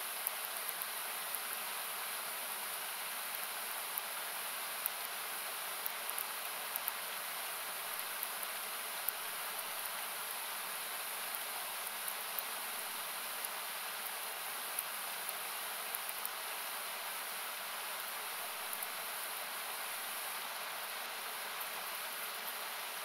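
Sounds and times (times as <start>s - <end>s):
campfire crackling: 0.1s - 23.0s.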